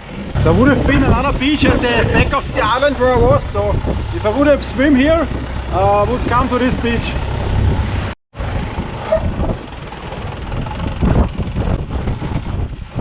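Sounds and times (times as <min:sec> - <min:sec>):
boat engine running: 0:00.0 - 0:13.0
wind and water noise: 0:00.0 - 0:13.0.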